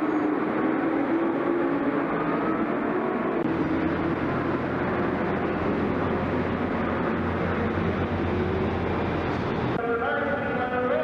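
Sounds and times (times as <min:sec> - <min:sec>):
kart engines racing: 0:00.0 - 0:11.0.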